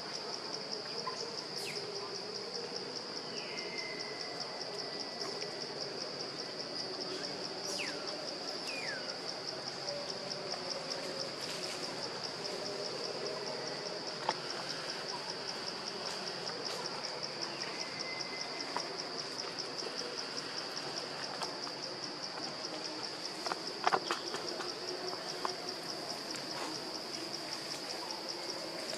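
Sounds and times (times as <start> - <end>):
insects trilling: 0.0 - 28.9.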